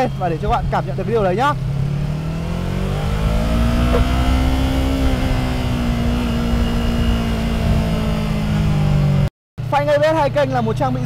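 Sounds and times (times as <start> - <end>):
motorcycle engine accelerating: 0.0 - 9.3.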